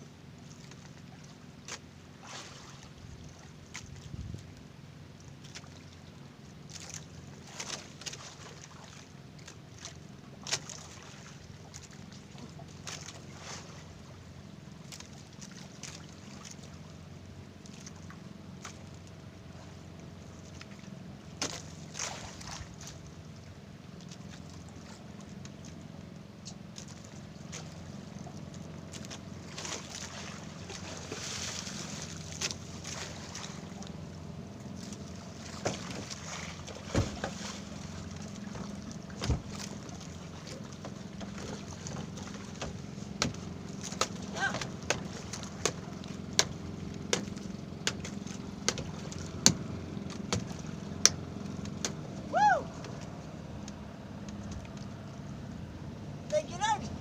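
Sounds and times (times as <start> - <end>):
boat engine running: 0.0 - 57.0
water sloshing around hull: 0.0 - 57.0.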